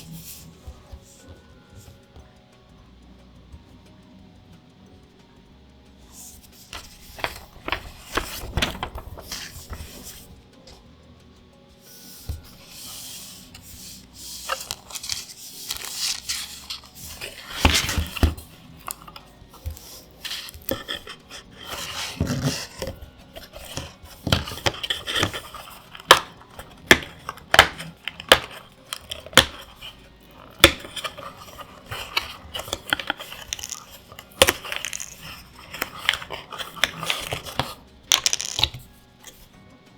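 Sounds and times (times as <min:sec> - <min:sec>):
packaging rustling and scraping: 0:00.0 - 0:02.0, 0:06.1 - 0:10.8, 0:11.9 - 0:39.5.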